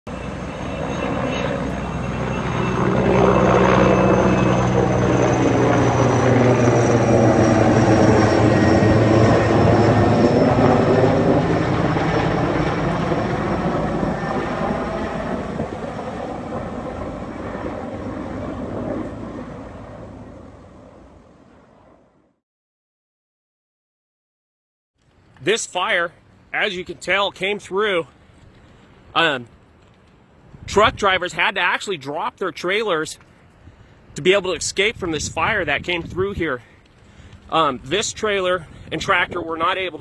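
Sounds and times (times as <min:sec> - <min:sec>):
aircraft engine drone passing overhead: 0:00.1 - 0:22.4, 0:25.1 - 0:40.0.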